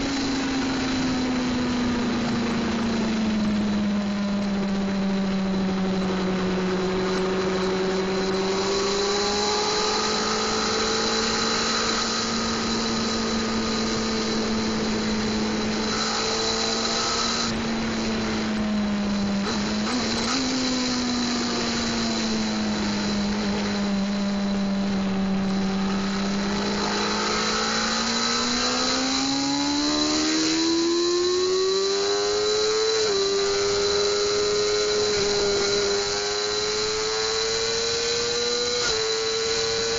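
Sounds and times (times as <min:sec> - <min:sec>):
motorcycle engine running hard: 0:00.0 - 0:39.9
thin high whine: 0:00.0 - 0:39.9.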